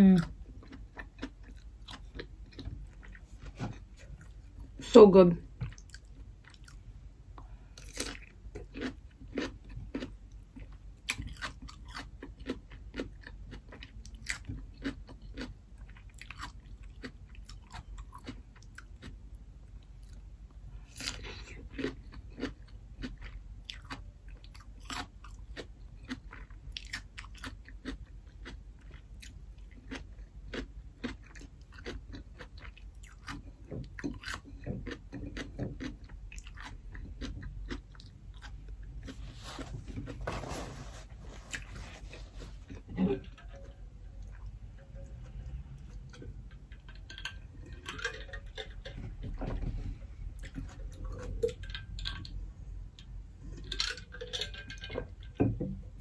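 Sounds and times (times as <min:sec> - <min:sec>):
crunching and chewing cucumber: 0:00.0 - 0:56.0.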